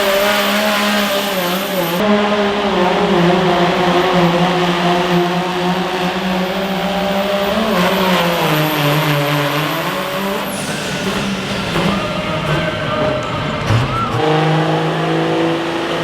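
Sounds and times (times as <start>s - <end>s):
vehicle engine running hard: 0.0s - 16.0s.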